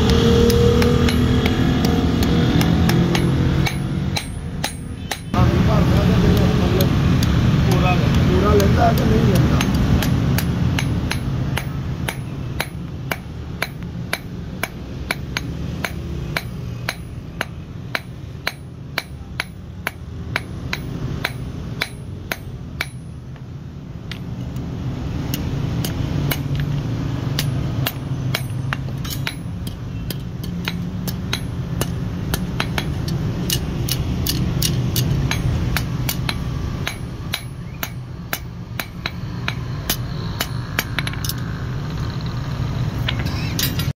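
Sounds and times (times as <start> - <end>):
hammer striking metal on anvil: 0.0 - 41.6, 43.0 - 43.9.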